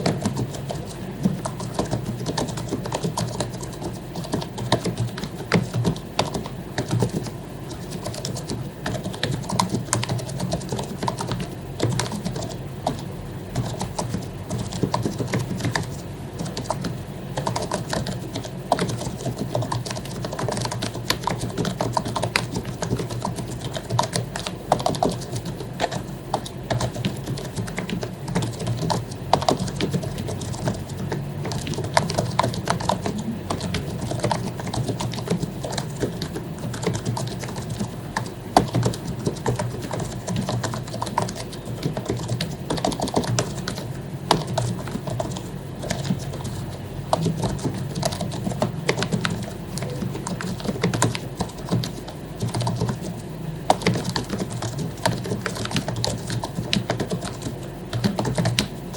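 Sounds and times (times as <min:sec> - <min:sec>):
soft membrane keyboard typing: 0:00.0 - 0:58.9.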